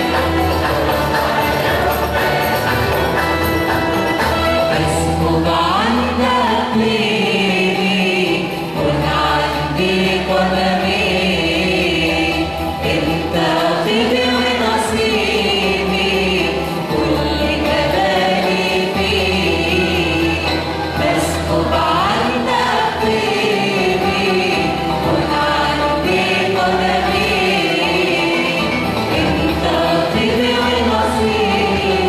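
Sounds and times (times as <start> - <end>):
choir singing a hymn: 0.0 - 32.0
instrumental bass accompaniment: 0.0 - 32.0.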